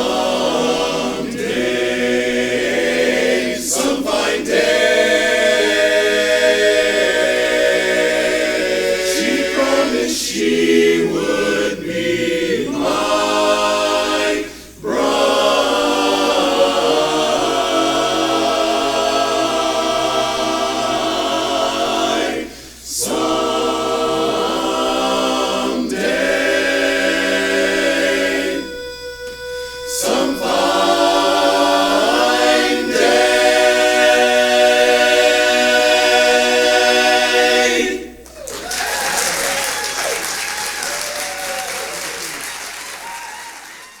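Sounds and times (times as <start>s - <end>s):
men's chorus singing in harmony: 0.0s - 38.2s.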